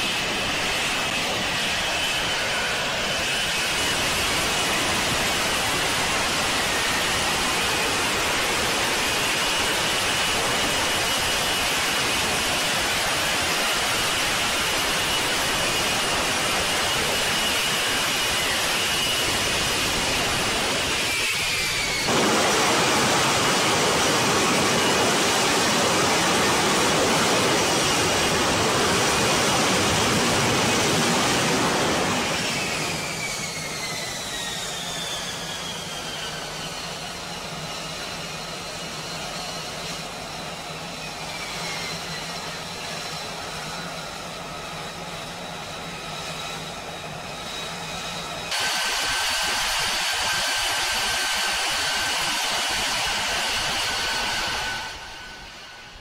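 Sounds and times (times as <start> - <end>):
jet engine rushing noise: 0.0 - 56.0
steady jet whine: 0.0 - 56.0
turbine whines sliding down: 0.0 - 56.0.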